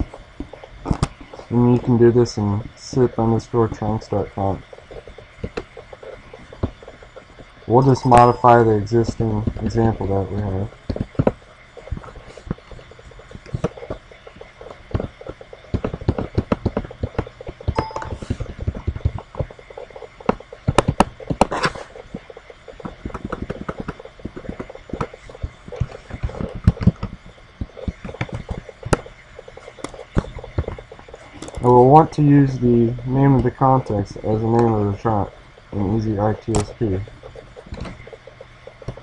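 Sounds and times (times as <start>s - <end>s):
computer keyboard typing: 3.0s - 39.0s.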